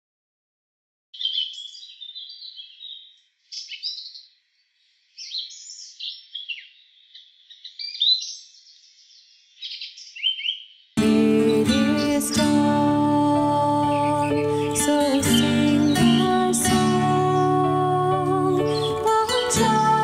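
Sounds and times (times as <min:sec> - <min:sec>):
songbird singing: 0:01.2 - 0:20.0.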